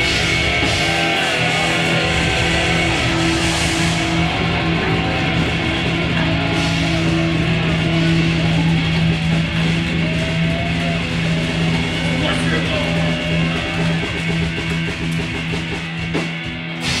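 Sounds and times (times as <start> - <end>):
loud distorted grindcore music: 0.0 - 17.0.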